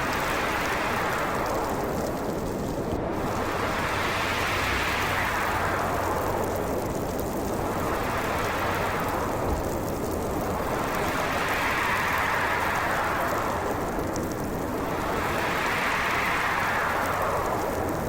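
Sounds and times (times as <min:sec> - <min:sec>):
gusting storm wind: 0:00.0 - 0:18.0.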